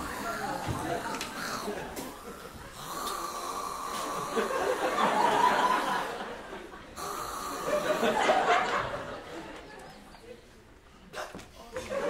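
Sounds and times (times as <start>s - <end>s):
group of people laughing: 0.0s - 2.9s, 3.9s - 10.6s, 11.6s - 12.0s.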